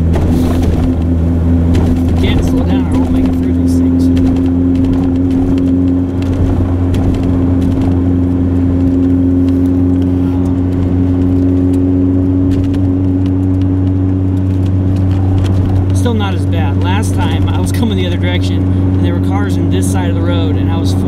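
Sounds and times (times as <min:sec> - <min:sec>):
truck engine and road drone: 0:00.0 - 0:21.0.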